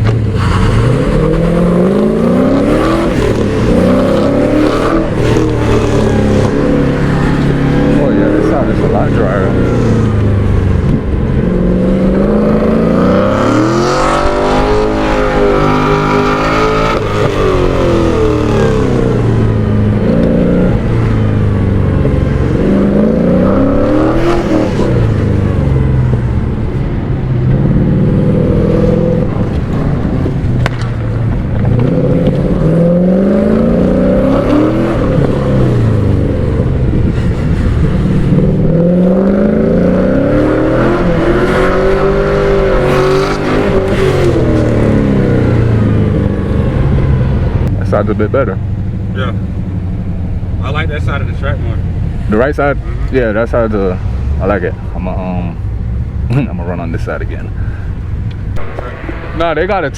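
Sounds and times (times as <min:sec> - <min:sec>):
car engine revving hard: 0:00.0 - 0:57.6.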